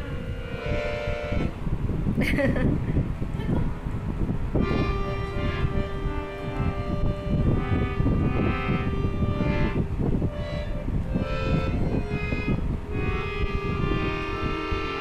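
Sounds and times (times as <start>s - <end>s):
melody of long held notes: 0.0s - 2.0s, 3.7s - 15.0s.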